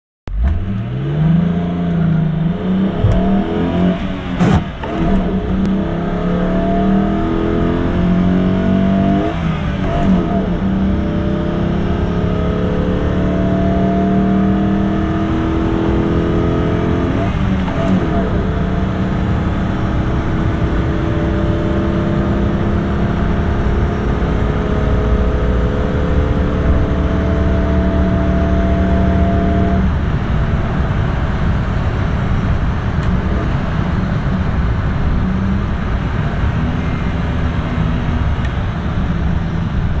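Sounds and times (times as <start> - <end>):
car engine accelerating: 0.3 - 40.0
road noise: 0.3 - 40.0.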